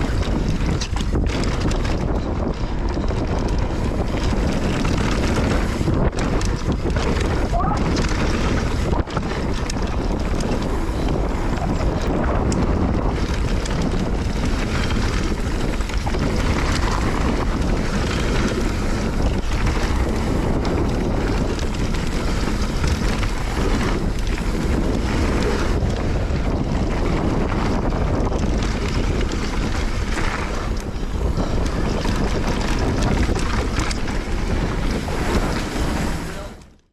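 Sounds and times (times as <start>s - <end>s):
tyre noise on dirt: 0.0s - 36.8s
bike rattling and knocking: 0.0s - 36.9s
wind buffeting microphone: 0.0s - 36.9s.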